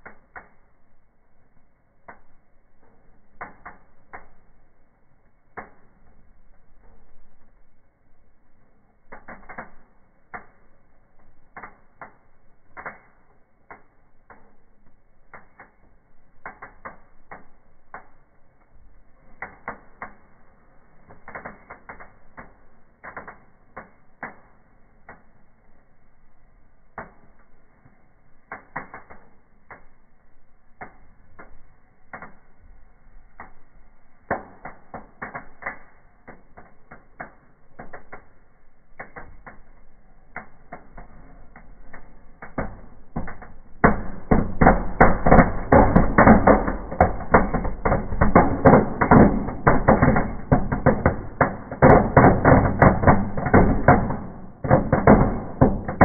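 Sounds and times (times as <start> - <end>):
faint steady fire noise: 0.0 - 56.0
branches crackling and popping: 1.9 - 25.6, 26.8 - 56.0.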